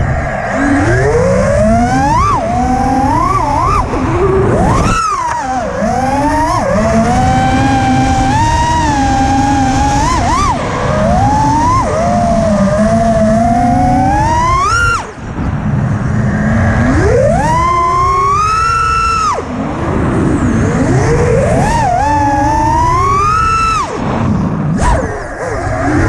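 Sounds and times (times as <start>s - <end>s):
quadcopter motors whining: 0.0s - 26.0s
wind rushing over microphone: 0.0s - 26.0s.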